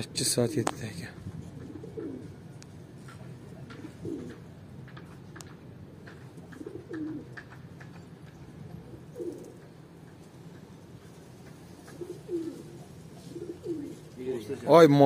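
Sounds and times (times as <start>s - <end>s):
pigeons cooing: 0.2s - 10.3s, 11.0s - 14.2s.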